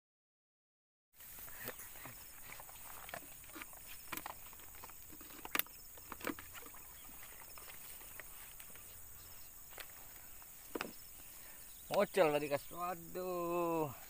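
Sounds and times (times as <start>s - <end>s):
steady high hiss: 1.2s - 14.0s.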